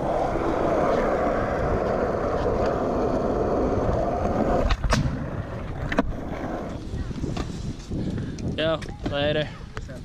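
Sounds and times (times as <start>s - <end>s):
skateboard wheels rolling on concrete: 0.0s - 10.0s.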